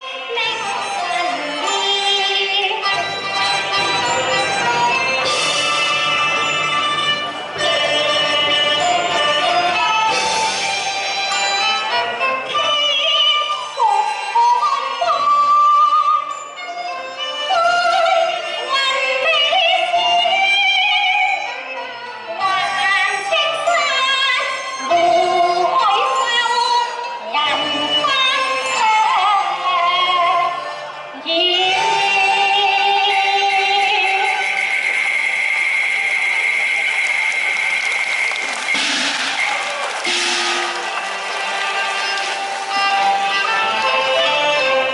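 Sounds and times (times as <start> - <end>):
traditional instrumental accompaniment: 0.0 - 44.9.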